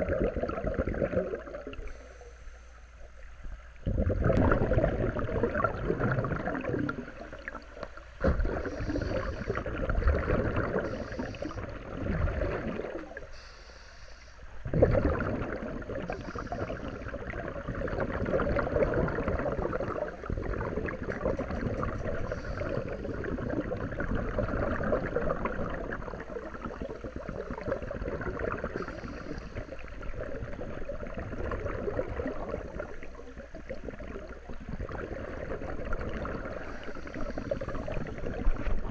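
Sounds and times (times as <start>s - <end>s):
underwater exhaled air bubbling: 0.0s - 38.9s.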